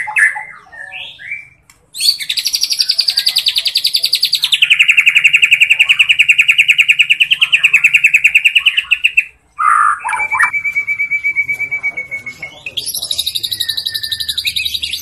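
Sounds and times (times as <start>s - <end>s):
bird singing rapid trill: 0.0s - 15.0s.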